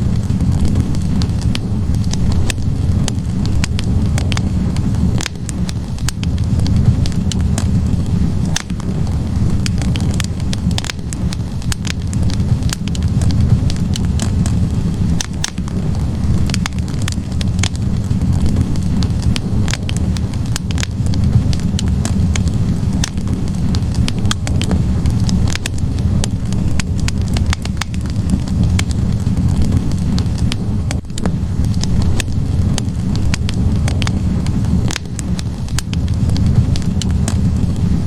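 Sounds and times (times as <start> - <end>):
flames rumbling: 0.0 - 38.0
logs crackling and popping: 0.0 - 38.0.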